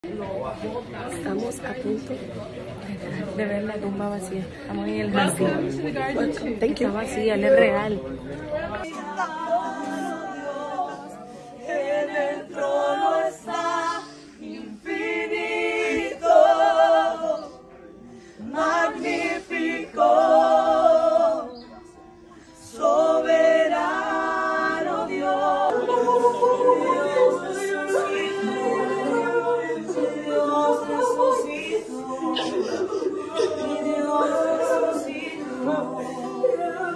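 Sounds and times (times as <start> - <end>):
voices singing unaccompanied: 0.0 - 36.9.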